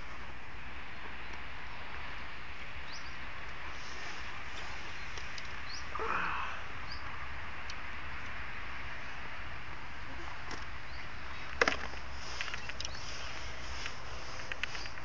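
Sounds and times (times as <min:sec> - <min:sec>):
steady outdoor hiss: 0:00.0 - 0:15.0
small birds chirping: 0:00.9 - 0:09.2, 0:10.0 - 0:15.0.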